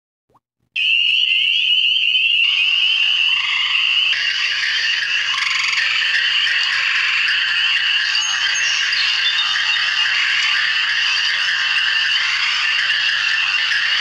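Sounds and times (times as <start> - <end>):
chorus of frogs calling: 0.8 - 14.0.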